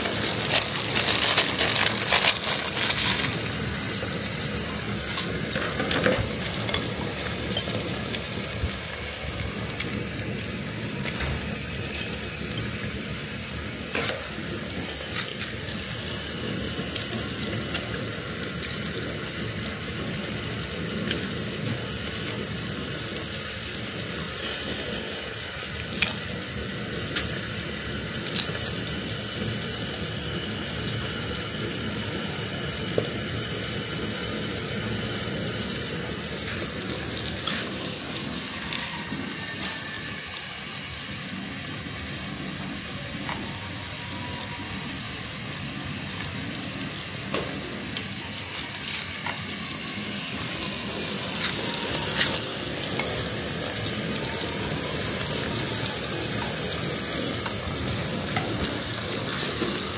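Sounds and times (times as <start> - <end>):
water running and splashing: 0.0 - 59.9.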